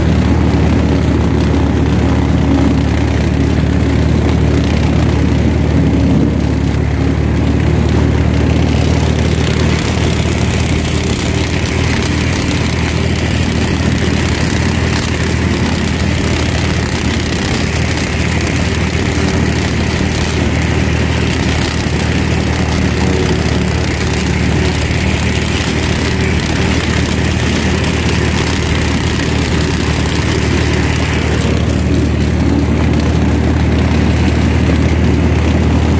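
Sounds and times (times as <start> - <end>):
mulcher shredding dry stalks: 0.0 - 35.9
tractor diesel engine running: 0.0 - 35.9.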